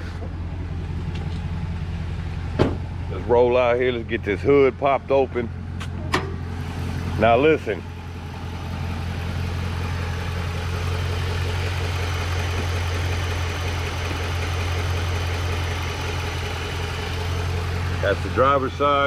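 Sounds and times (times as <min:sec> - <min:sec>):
pickup truck engine idling: 0:00.0 - 0:19.0.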